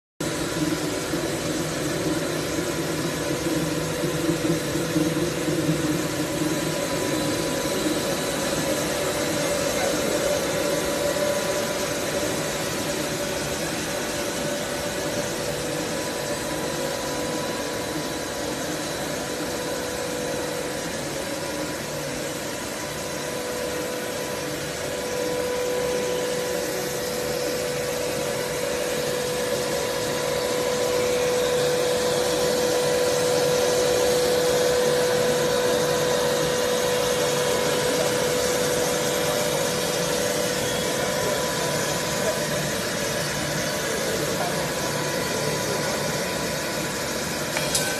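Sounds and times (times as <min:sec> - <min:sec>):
machinery drone with steady whine: 0:00.2 - 0:47.9.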